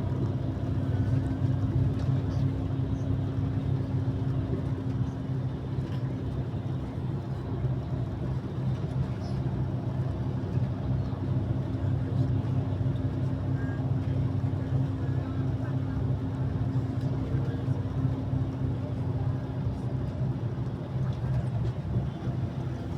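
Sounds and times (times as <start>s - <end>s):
engine droning: 0.0s - 22.9s.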